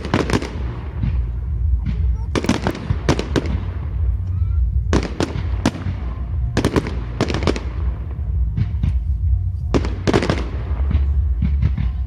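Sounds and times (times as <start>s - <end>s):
fireworks bangs and cracks: 0.0s - 12.0s
steady low rumble: 0.0s - 12.0s.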